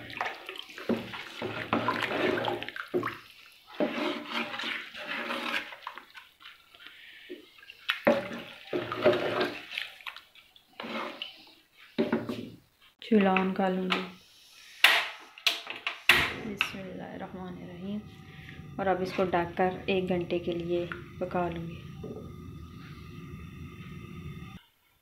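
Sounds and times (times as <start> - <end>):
water sloshing in a pot: 0.0 - 12.4, 15.7 - 24.6.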